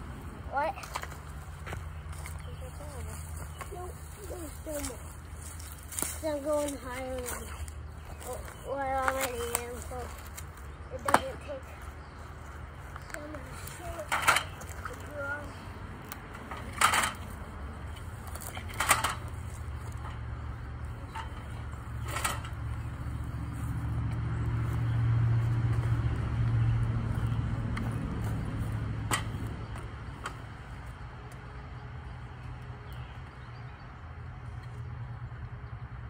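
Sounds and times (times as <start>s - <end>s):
engine rumble passing by: 0.0s - 36.0s.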